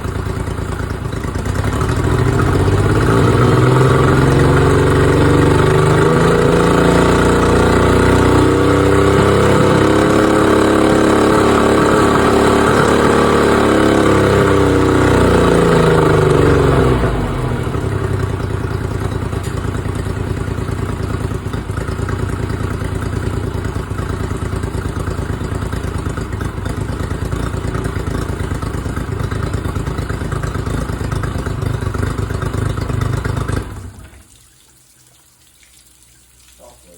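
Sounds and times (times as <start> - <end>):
outboard motor running: 0.0 - 34.3.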